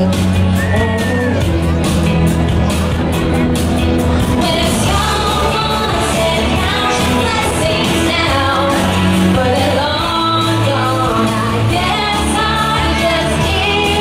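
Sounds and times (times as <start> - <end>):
pop song with singing: 0.0 - 1.8, 4.1 - 14.0
steady bass notes: 0.0 - 14.0.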